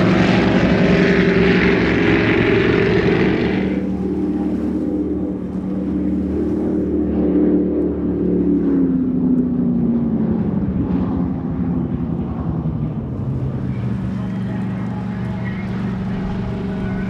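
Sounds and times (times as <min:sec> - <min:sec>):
powerboat engines passing: 0:00.0 - 0:17.0.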